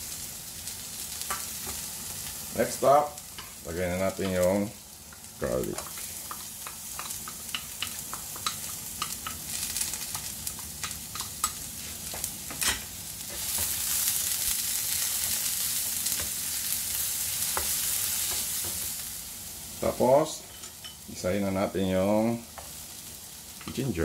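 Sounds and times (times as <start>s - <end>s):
onions and garlic sizzling in oil: 0.0s - 24.0s.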